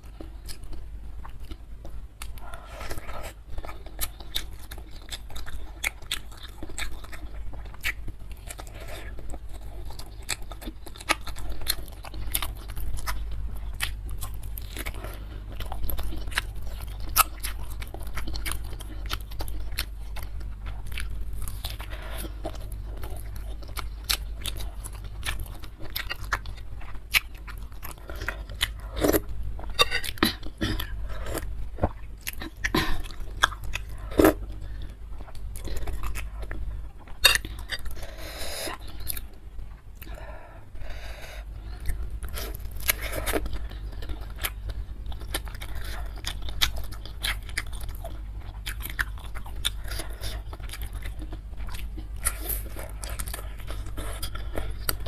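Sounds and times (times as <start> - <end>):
biting and chewing food: 0.0 - 55.0.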